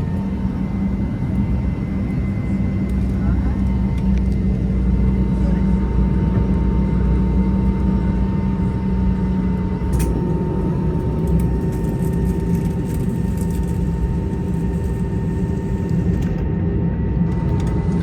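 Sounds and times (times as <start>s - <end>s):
faint steady whine: 0.0s - 18.0s
vehicle engine drone: 0.0s - 18.0s.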